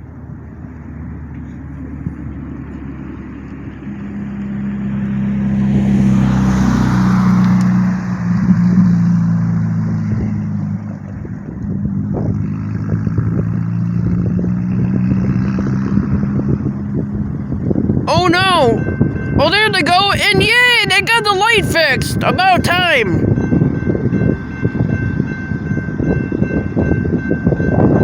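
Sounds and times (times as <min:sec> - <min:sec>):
locomotive engine drone: 0:00.0 - 0:28.0.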